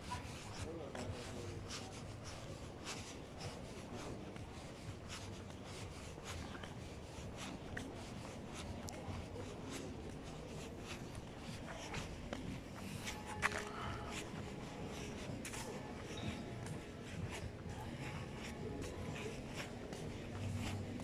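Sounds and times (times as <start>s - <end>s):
footsteps: 0.0s - 21.0s.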